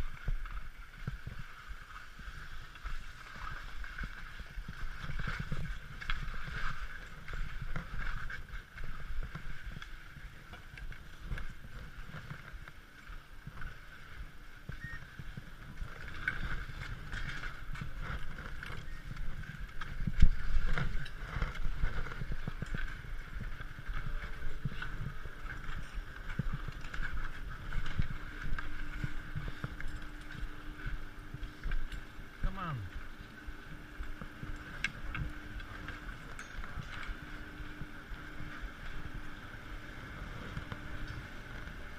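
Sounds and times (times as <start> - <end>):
skis scraping on snow: 0.0 - 41.9
steady low hum: 0.0 - 41.9.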